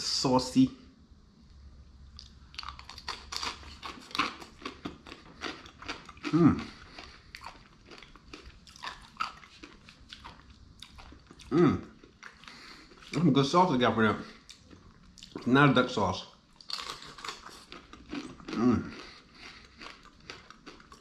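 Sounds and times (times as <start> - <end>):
crunching and chewing fried food: 2.1 - 13.4, 14.3 - 21.0.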